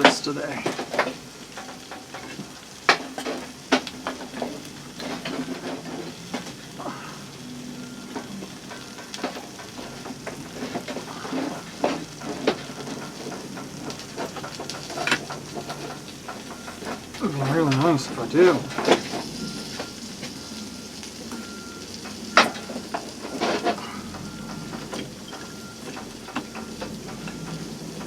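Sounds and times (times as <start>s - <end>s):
sharp clicks and knocks: 0.0s - 6.7s, 8.0s - 20.4s, 21.0s - 28.0s
egg sizzling in a pan: 0.0s - 28.0s.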